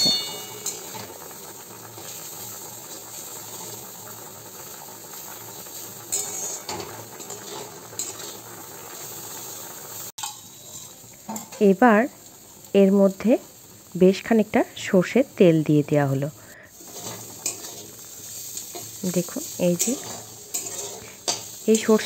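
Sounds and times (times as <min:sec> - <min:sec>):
gravy bubbling and sizzling: 0:00.0 - 0:22.0.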